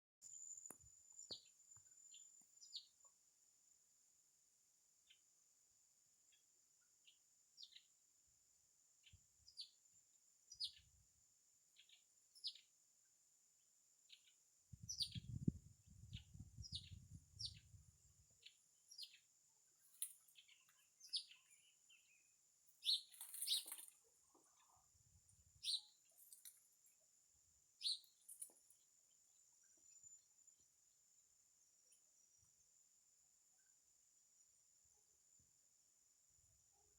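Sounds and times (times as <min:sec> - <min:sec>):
songbirds chirping: 0:00.4 - 0:03.2, 0:06.2 - 0:08.1, 0:08.9 - 0:35.4.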